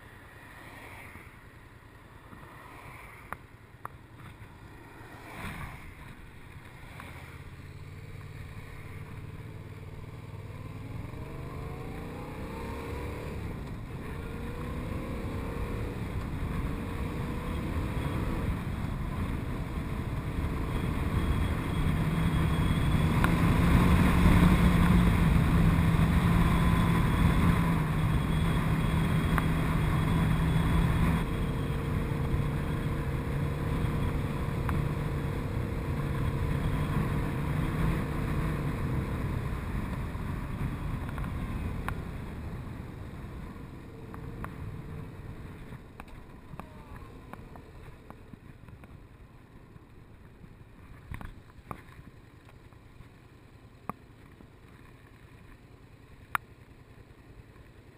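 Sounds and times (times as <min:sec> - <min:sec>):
motorcycle engine: 0:03.6 - 0:57.7.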